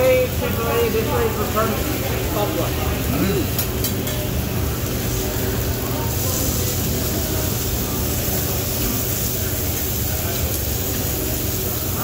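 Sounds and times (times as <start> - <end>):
exhaust ventilation drone: 0.0 - 12.0
food sizzling on griddle: 0.0 - 12.0.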